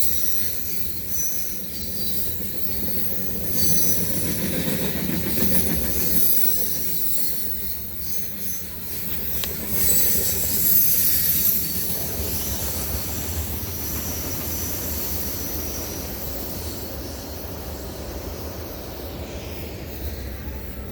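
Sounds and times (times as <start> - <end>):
high wheel squeal: 0.0 - 17.3
train wheels rumbling on rails: 0.0 - 20.9.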